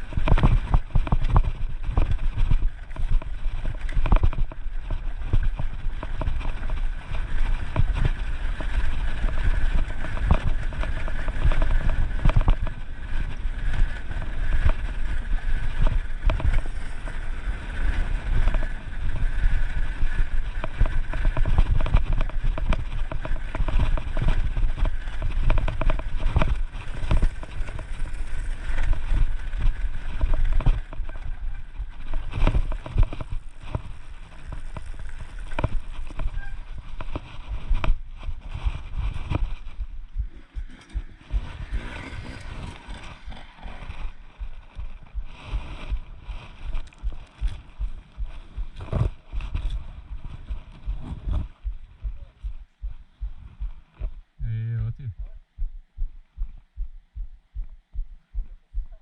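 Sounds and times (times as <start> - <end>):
dirt bike engine: 0.0 - 54.8.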